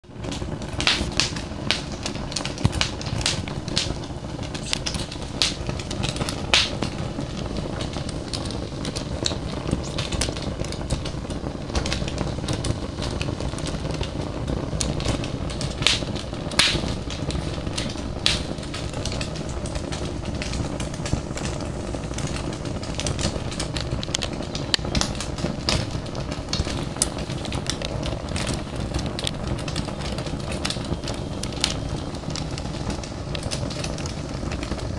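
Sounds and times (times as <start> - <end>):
fire crackling and popping: 0.0 - 34.9.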